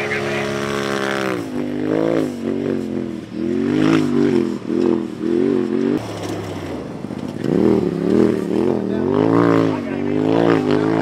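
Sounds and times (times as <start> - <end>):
engine revving in bursts: 0.0 - 11.0.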